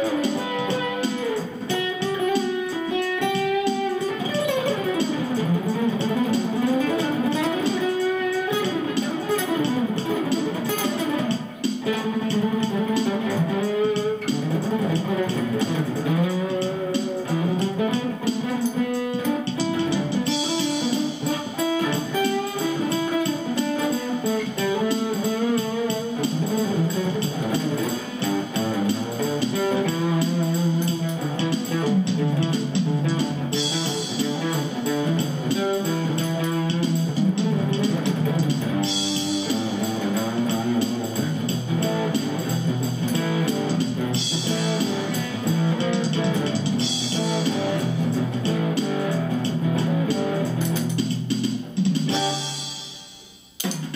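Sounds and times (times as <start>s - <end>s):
overdriven acoustic guitar melody: 0.0s - 53.9s.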